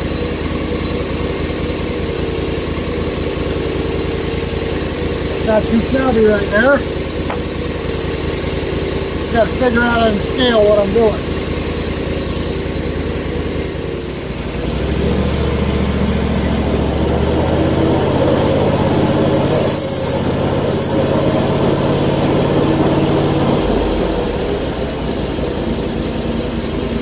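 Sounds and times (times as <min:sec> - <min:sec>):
sawmill engine running: 0:00.0 - 0:27.0.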